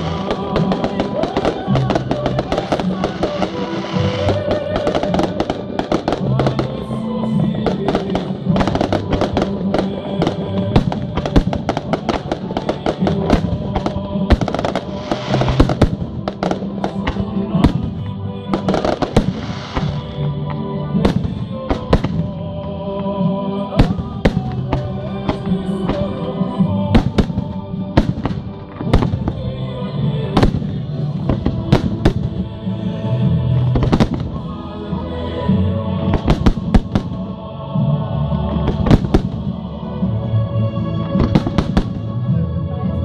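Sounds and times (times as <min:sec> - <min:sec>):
fireworks bangs and crackles: 0:00.0 - 0:34.6, 0:36.0 - 0:37.4, 0:38.4 - 0:39.6, 0:41.1 - 0:42.2
music with held notes: 0:00.0 - 0:43.0.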